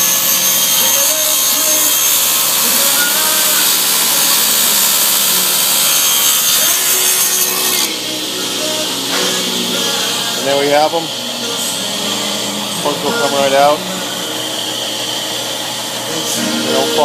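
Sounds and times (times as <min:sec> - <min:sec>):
table saw cutting wood: 0:00.0 - 0:17.0.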